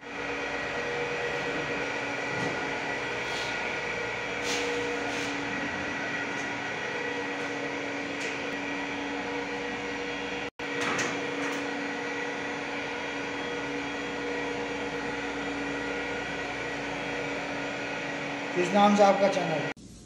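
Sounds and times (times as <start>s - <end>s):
air conditioner humming: 0.0s - 20.0s.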